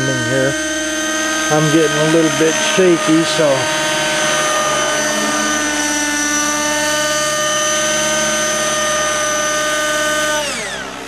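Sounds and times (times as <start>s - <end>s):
model helicopter engine whine: 0.0s - 11.0s.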